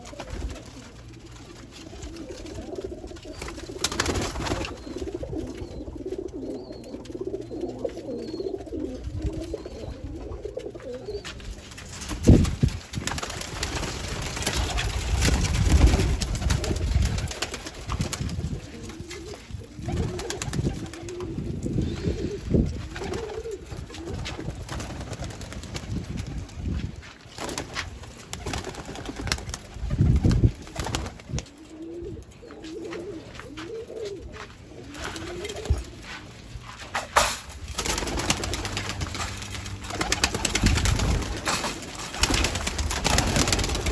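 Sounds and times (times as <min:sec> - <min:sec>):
pigeons cooing: 0:00.0 - 0:26.7, 0:28.1 - 0:36.7.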